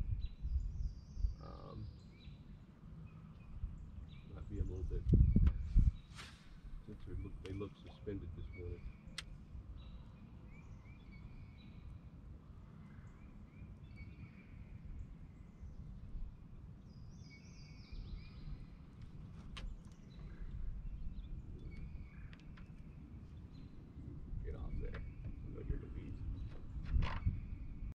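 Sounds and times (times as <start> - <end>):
low outdoor rumble: 0.0 - 27.9
small birds chirping: 0.0 - 27.9.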